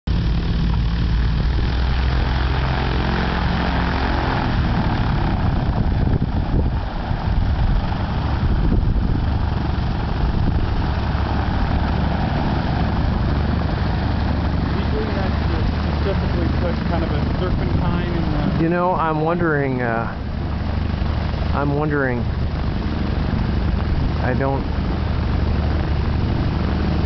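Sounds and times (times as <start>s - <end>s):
propeller plane engine droning: 0.0s - 27.0s.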